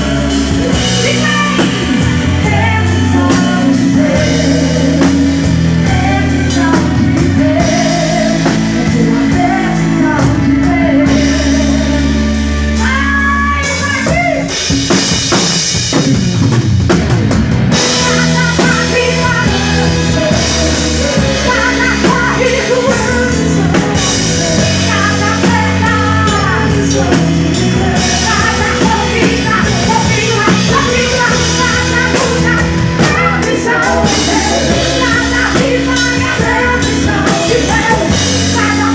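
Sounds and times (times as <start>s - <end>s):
woman singing: 0.0s - 14.7s, 17.8s - 38.9s
drum kit: 0.0s - 38.9s
gospel band playing: 0.0s - 38.9s
guitar: 0.0s - 38.9s.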